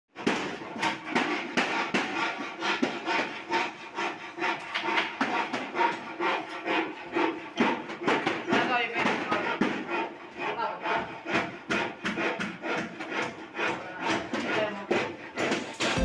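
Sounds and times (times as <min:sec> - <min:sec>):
rasping strokes on wood: 0:00.1 - 0:16.0.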